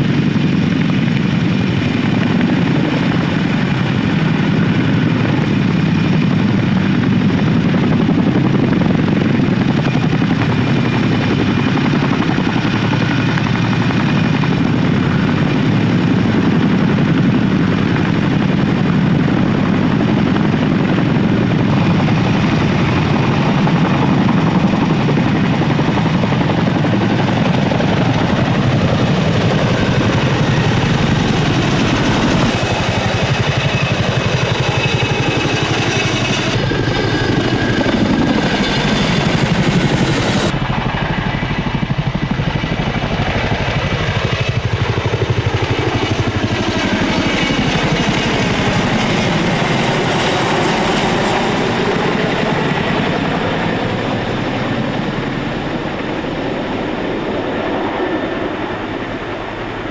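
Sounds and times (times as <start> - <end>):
helicopter rotors chopping: 0.0 - 59.9
turbine whine: 0.0 - 59.9.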